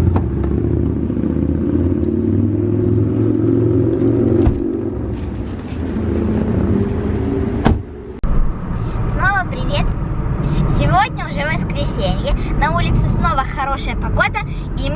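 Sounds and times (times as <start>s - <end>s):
car engine and road rumble: 0.0s - 14.9s.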